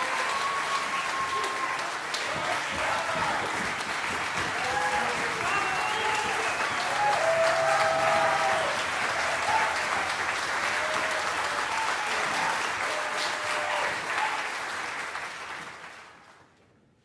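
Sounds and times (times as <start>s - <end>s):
audience cheering: 0.0s - 15.6s
audience applauding: 0.0s - 16.6s.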